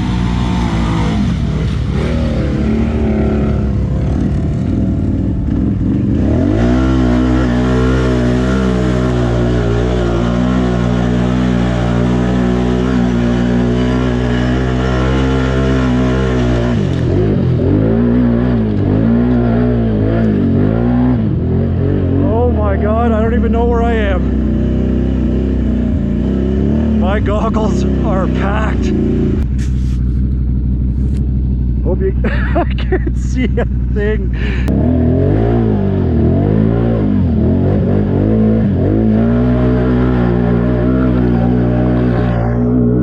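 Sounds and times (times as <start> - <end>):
quad engine revving: 0.0 - 43.0.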